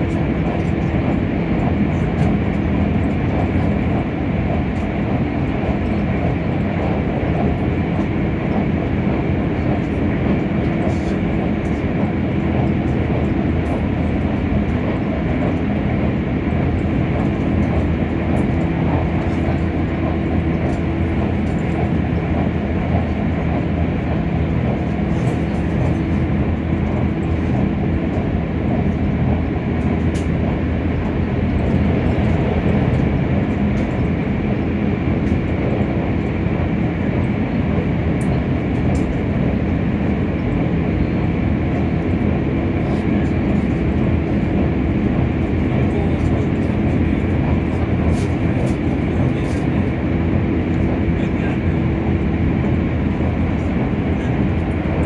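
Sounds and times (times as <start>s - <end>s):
constant hum: 0.0s - 55.0s
train wheels rumbling on rail: 0.0s - 55.0s.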